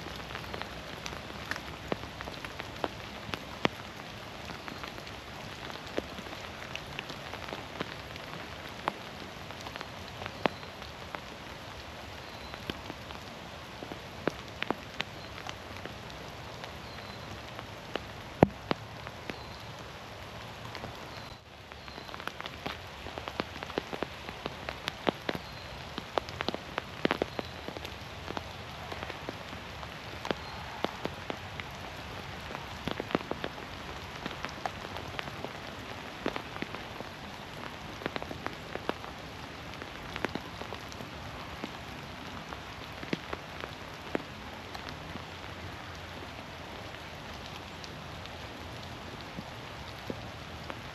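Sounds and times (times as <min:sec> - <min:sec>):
rain patter: 0:00.0 - 0:50.9
raindrops landing close by: 0:00.0 - 0:50.9.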